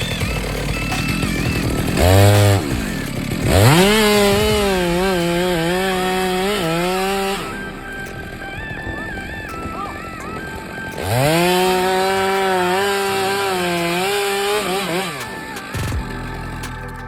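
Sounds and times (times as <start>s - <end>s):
chainsaw revving and cutting: 0.0s - 16.7s.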